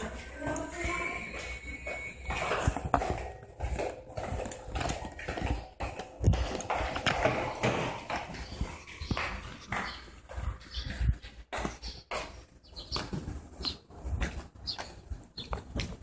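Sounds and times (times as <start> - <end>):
footsteps on tiled floor: 0.0 - 16.0.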